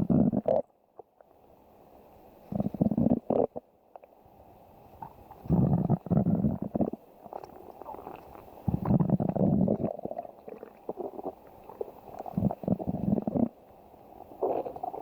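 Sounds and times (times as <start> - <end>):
stomach growling: 0.0 - 1.2, 2.5 - 4.1, 5.0 - 15.0.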